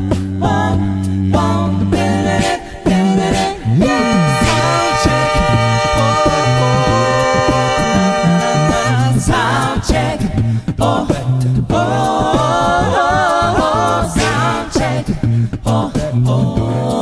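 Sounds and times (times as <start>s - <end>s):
beatboxed beat: 0.0s - 17.0s
sung bass line: 0.0s - 17.0s
vocal group singing harmonies: 0.0s - 17.0s.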